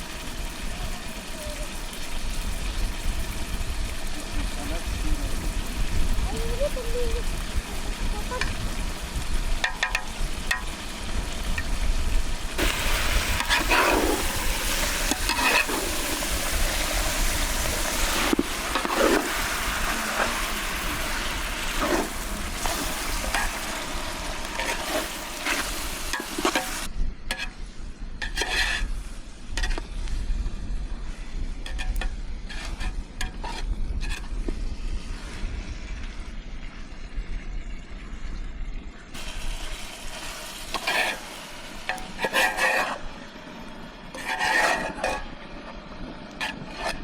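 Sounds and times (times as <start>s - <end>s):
food sizzling over fire: 0.0s - 47.0s.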